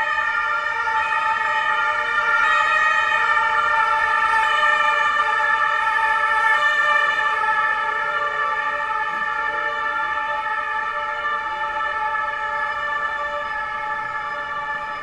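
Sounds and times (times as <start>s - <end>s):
police siren steady tones: 0.0s - 15.0s.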